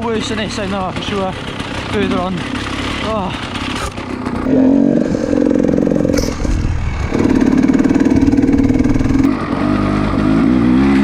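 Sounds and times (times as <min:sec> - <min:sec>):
dirt bike engine revving: 0:00.4 - 0:11.0.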